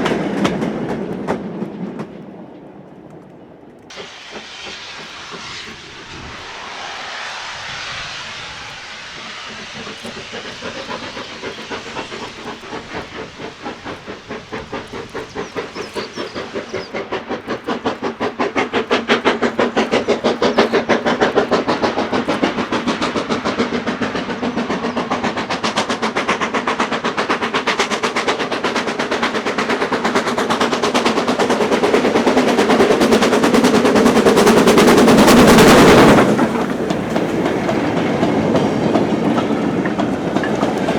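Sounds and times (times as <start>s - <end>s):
steam locomotive exhaust beat: 0.0s - 2.9s, 3.7s - 40.9s
steam hissing: 3.9s - 40.9s.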